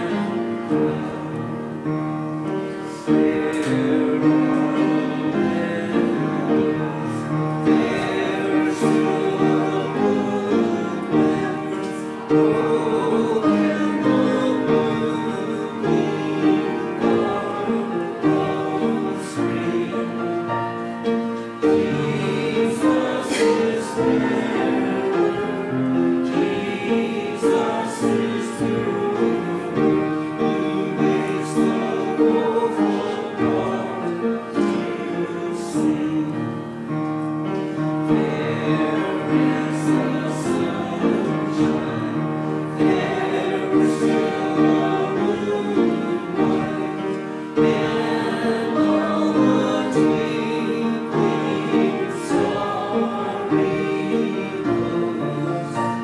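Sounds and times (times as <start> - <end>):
congregation singing a hymn: 0.0 - 56.0
piano: 0.0 - 56.0.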